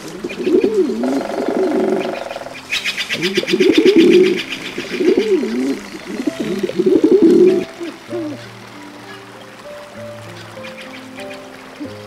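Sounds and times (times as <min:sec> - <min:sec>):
pigeon cooing: 0:00.0 - 0:12.0.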